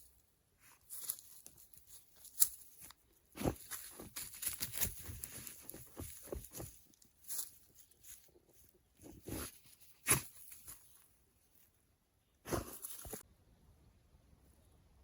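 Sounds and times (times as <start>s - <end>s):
camping gear rustling and crinkling: 0.0s - 13.3s.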